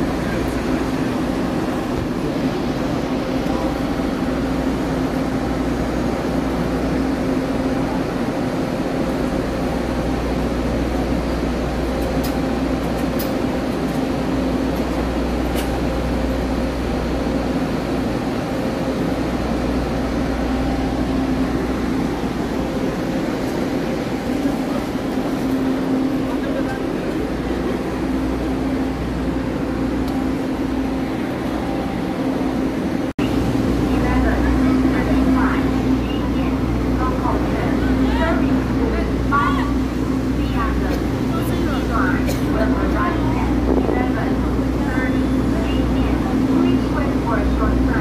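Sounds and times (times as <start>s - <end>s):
diesel railcar idling: 0.0s - 48.0s.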